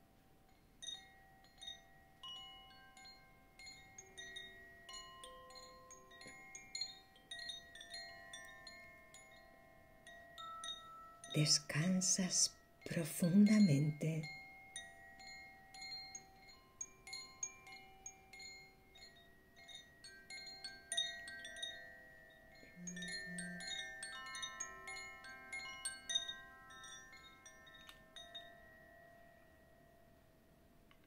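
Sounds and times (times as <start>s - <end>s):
tinkling chimes: 0.0s - 31.0s.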